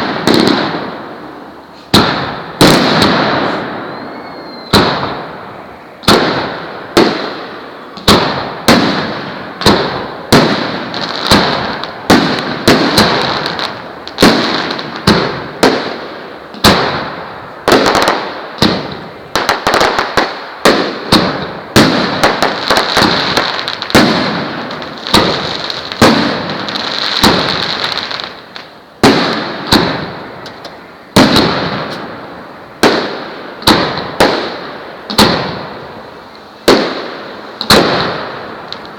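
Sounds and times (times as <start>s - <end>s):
firework bangs: 0.0s - 38.9s
firework crackling: 0.0s - 38.9s.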